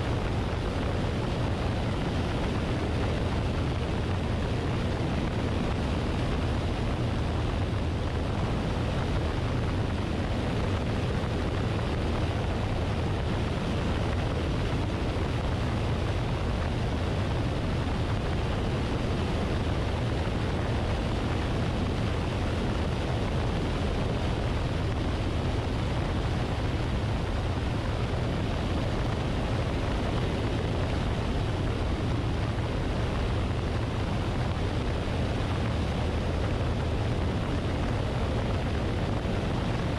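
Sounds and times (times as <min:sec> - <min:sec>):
airflow rushing over microphone: 0:00.0 - 0:39.9
light aircraft engine drone: 0:00.0 - 0:39.9.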